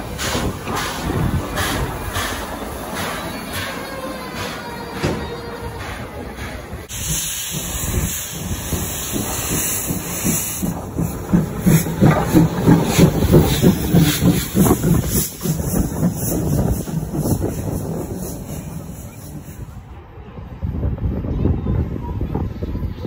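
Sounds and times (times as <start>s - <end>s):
steam locomotive chuffing: 0.0s - 20.1s
steam locomotive hissing steam: 0.0s - 20.1s.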